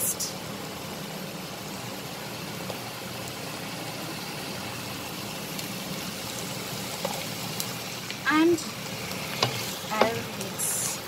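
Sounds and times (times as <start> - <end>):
cooling fan humming: 0.0 - 11.0
vegetables sizzling in oil: 0.0 - 11.0.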